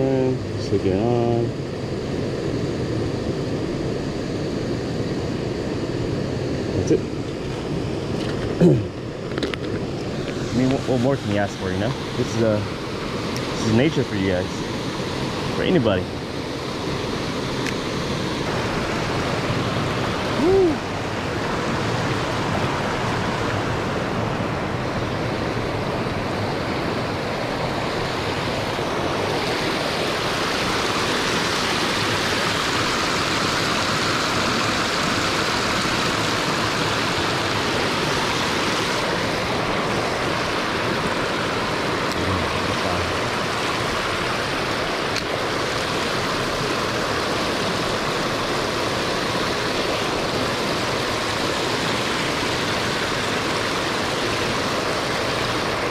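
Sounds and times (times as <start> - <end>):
creek water rushing: 6.8 - 55.9.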